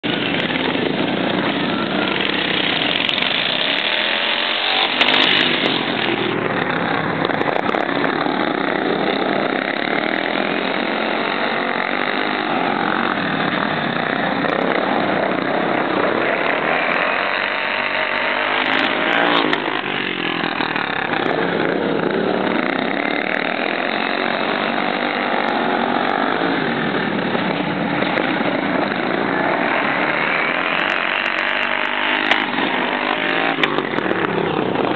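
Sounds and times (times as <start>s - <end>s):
lawn mower engines racing past: 0.0s - 34.9s.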